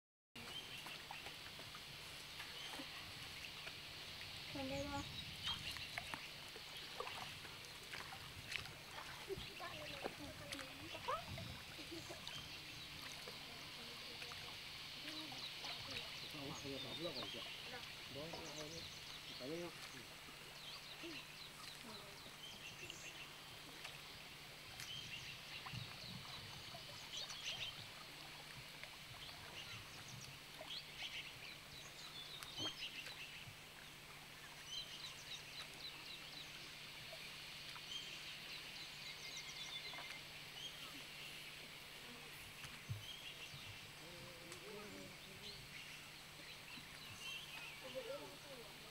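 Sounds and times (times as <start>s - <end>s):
faint bird chirps and trills: 8.9s - 48.7s.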